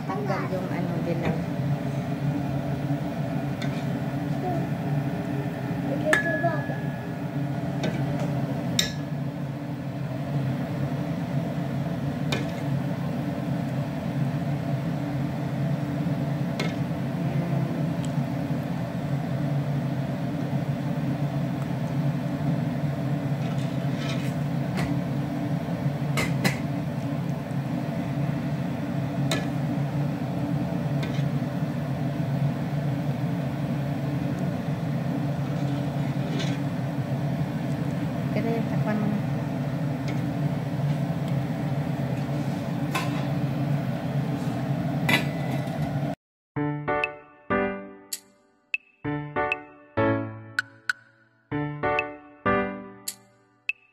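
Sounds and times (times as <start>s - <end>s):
steady low hum: 0.0s - 46.2s.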